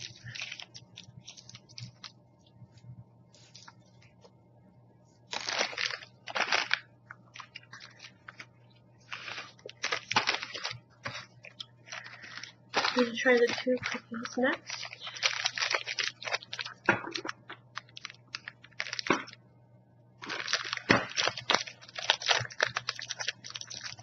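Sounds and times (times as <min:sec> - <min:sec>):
snack packaging crinkling: 0:00.0 - 0:02.5, 0:05.3 - 0:19.4, 0:20.2 - 0:24.0.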